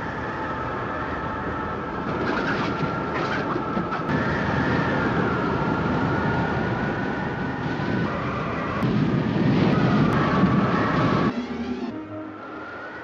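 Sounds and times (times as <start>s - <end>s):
rumbling wind roar: 0.0s - 11.6s
high whistling wind tones: 0.0s - 13.0s.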